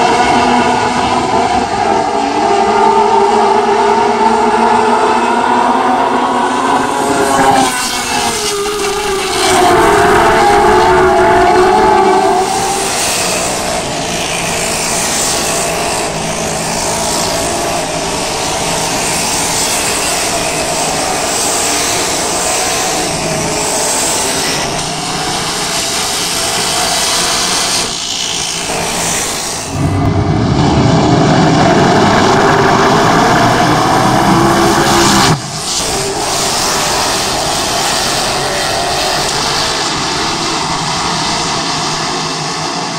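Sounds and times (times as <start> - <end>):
race car engines roaring: 0.0 - 42.9.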